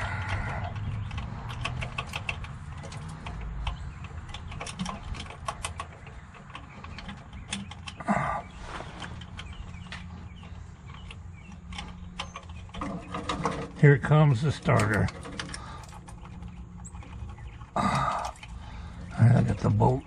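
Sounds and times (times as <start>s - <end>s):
small metallic clicks and scrapes: 0.0s - 20.0s.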